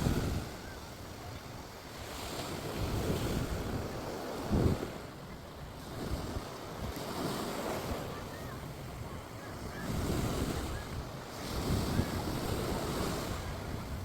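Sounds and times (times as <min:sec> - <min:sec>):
sea surf washing onto beach: 0:00.0 - 0:14.0
wind buffeting microphone: 0:00.0 - 0:14.0.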